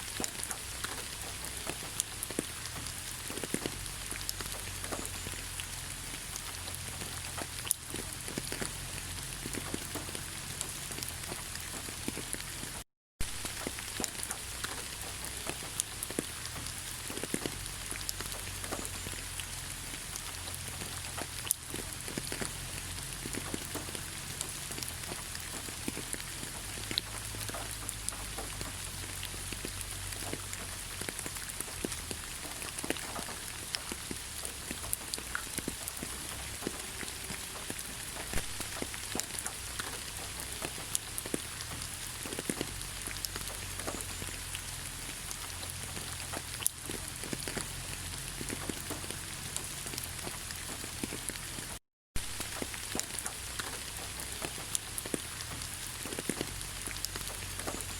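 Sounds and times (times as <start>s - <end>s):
rain falling in forest: 0.0s - 57.9s.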